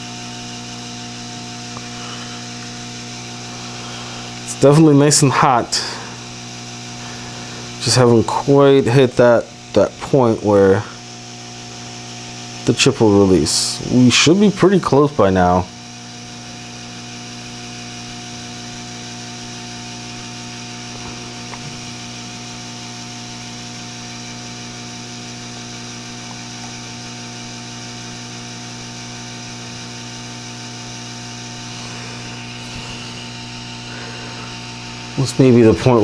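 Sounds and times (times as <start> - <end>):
hot air station hissing hum: 0.0 - 36.0.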